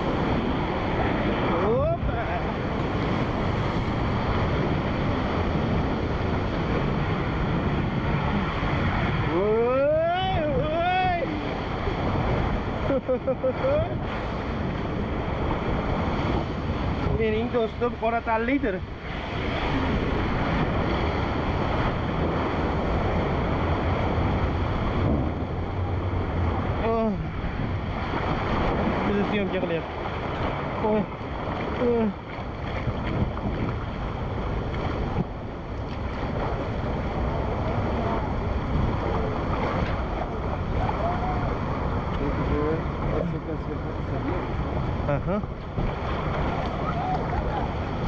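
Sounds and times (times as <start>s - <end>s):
water rushing down a waterslide: 0.0s - 48.0s
wind buffeting microphone: 0.0s - 48.0s.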